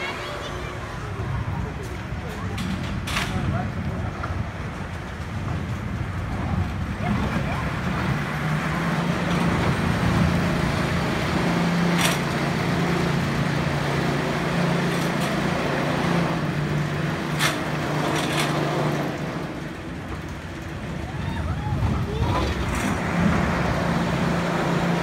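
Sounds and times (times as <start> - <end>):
roller coaster rumbling on track: 0.0 - 25.0.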